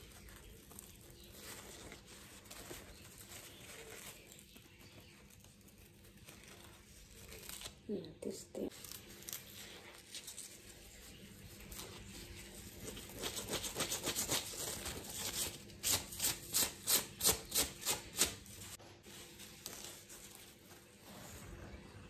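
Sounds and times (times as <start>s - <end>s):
leaves rubbed and torn by hand: 0.0s - 22.0s.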